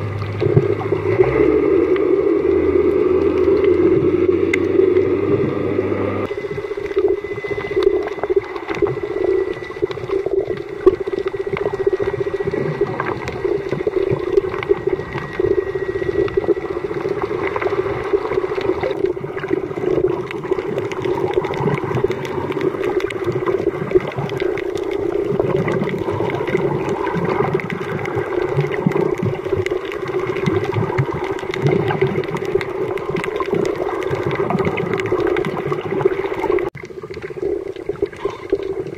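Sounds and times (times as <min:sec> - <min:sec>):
crackle of small clicks: 0:00.0 - 0:05.1, 0:06.2 - 0:38.9
low underwater hum: 0:00.0 - 0:38.9.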